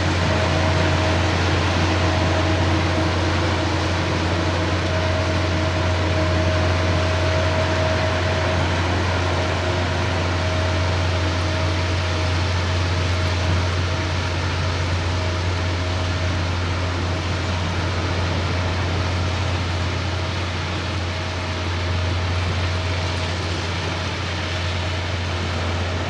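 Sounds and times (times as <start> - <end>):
diesel engine droning: 0.0 - 26.0
thin steady whine: 0.0 - 26.0.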